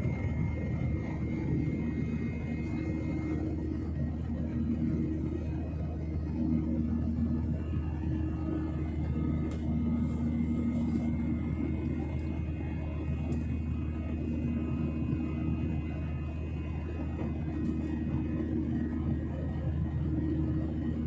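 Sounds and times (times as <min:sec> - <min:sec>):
airliner engines rumbling: 0:00.0 - 0:21.0
faint high whine: 0:00.0 - 0:21.0.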